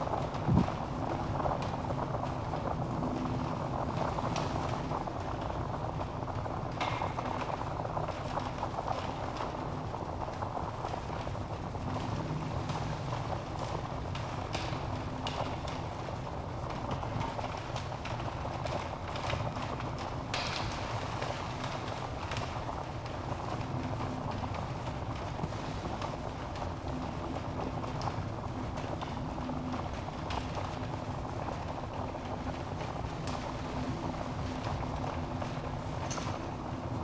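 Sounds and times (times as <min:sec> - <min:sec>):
fire crackles and pops: 0:00.0 - 0:37.0
low rushing of flames: 0:00.0 - 0:37.0.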